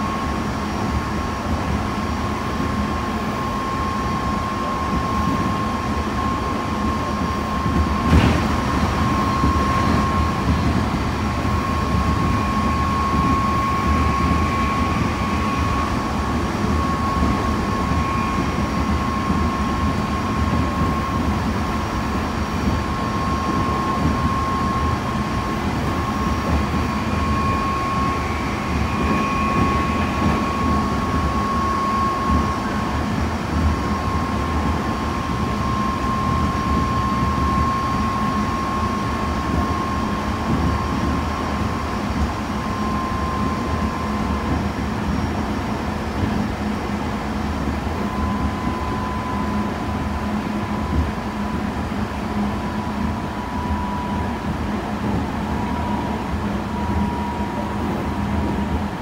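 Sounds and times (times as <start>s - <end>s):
train interior running rumble: 0.0s - 59.0s.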